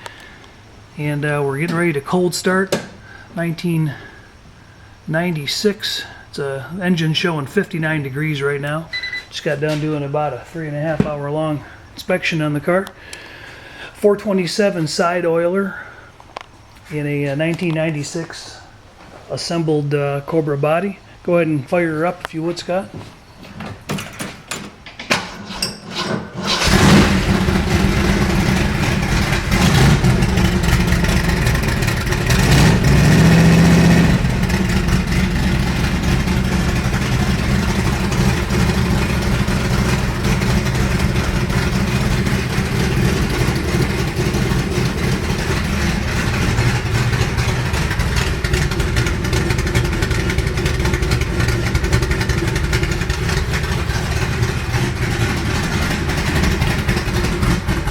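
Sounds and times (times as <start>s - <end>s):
car engine starting and idling: 0.0s - 12.9s, 24.2s - 57.9s.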